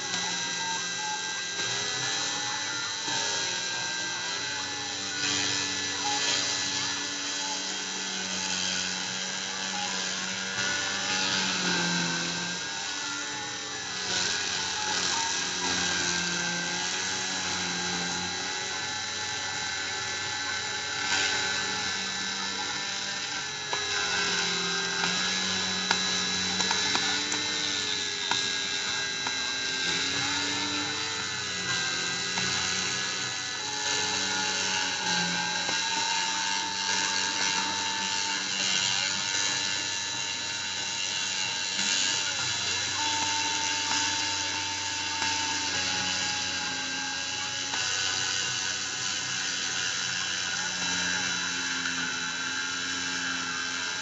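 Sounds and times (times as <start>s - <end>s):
rotary tool spinning: 0.0s - 54.0s
stepper motors whining: 0.0s - 54.0s.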